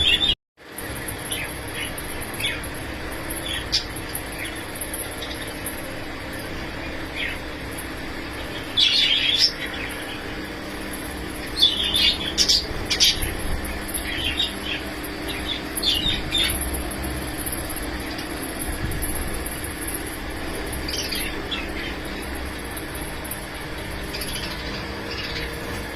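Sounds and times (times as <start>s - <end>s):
birds calling and chattering: 0.0s - 25.9s
steady low hum: 0.0s - 25.9s.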